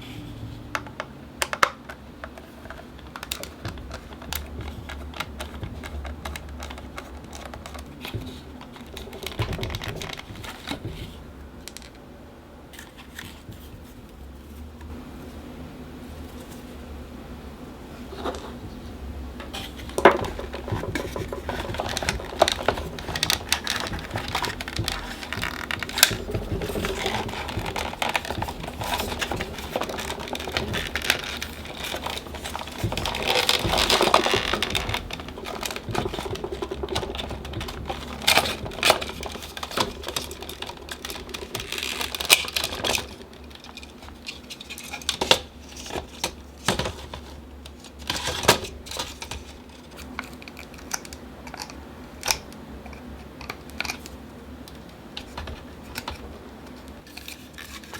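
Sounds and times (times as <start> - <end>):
plastic parts clicking and rattling: 0.7 - 12.1, 12.7 - 14.9, 18.2 - 57.9
steady low hum: 2.0 - 57.6.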